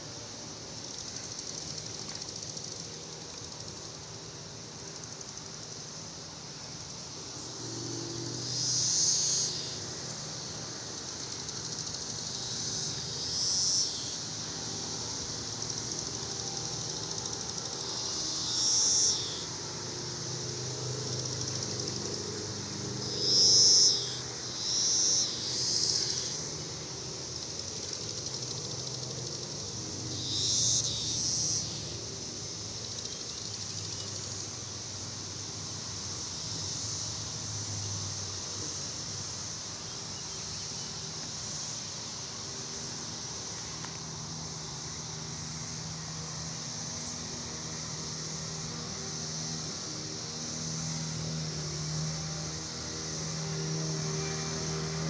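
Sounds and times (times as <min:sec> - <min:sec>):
cicadas chorus: 0:00.0 - 0:55.0
loud nearby cicada buzzes: 0:00.0 - 0:55.0.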